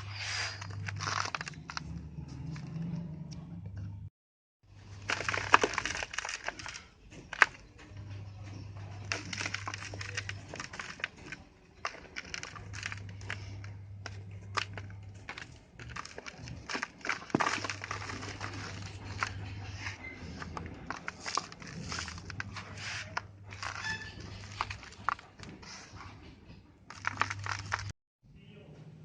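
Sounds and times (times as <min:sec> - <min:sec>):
hardened sand crushing and crumbling: 0:00.0 - 0:03.0, 0:04.8 - 0:25.8, 0:26.9 - 0:27.9.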